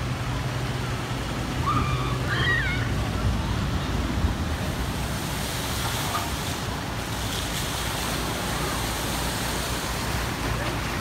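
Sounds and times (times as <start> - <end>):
water rushing and churning: 0.0 - 11.0
wind rumbling on microphone: 0.0 - 11.0.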